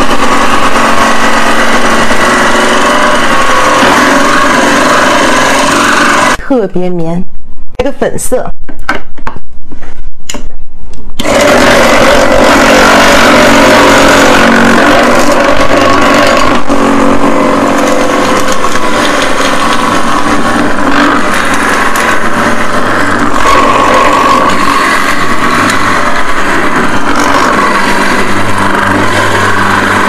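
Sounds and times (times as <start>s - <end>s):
blade grinding ice: 0.0s - 6.4s, 11.2s - 30.0s
shaved-ice machine motor humming: 0.0s - 6.4s, 11.2s - 30.0s.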